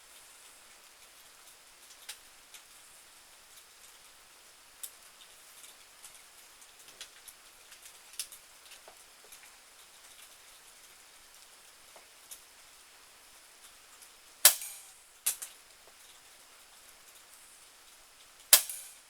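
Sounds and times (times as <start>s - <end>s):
light rain hissing: 0.0s - 19.0s.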